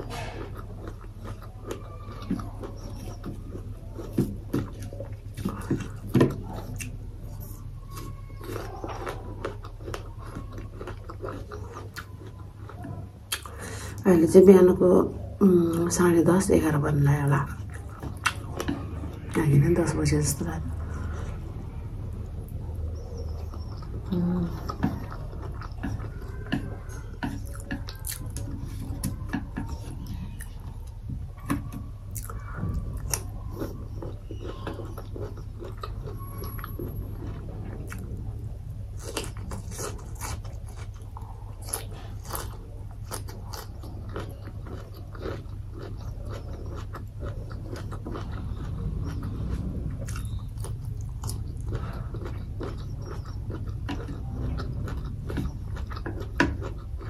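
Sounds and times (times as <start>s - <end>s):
person chewing and biting: 0.0s - 13.7s, 17.6s - 19.0s, 22.2s - 57.0s
low steady hum: 0.0s - 57.0s.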